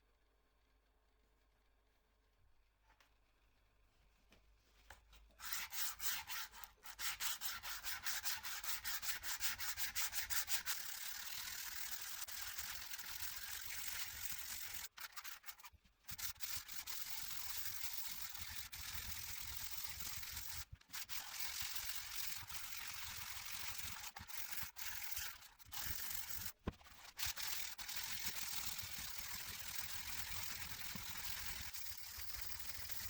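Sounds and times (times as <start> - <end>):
sandpaper scratching on metal: 5.4 - 33.0.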